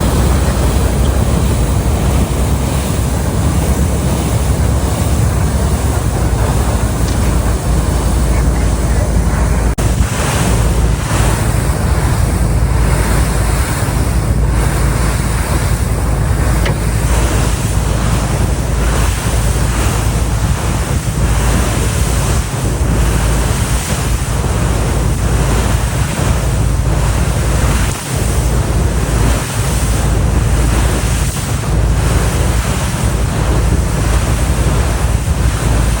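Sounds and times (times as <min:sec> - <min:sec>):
water washing past boat: 0:00.0 - 0:36.0
wind buffeting microphone: 0:00.0 - 0:36.0.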